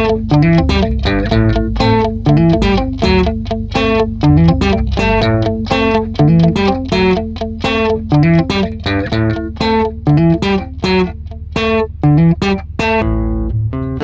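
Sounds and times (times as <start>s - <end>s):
plucked guitar melody: 0.0s - 14.0s
steady bass line: 0.0s - 14.0s.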